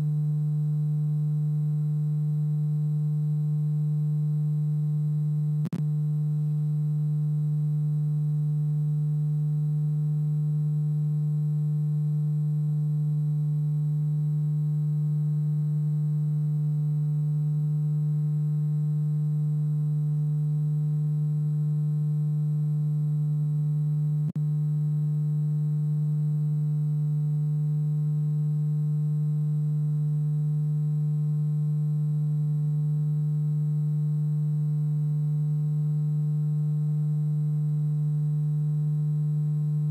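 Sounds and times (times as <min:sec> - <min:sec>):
steady low-pitched hum: 0:00.0 - 0:39.9.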